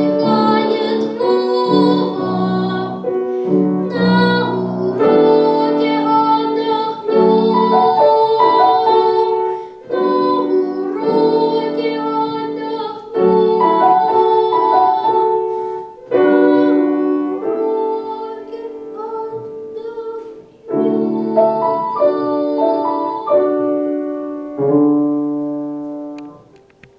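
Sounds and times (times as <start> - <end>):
piano piece: 0.0 - 26.9.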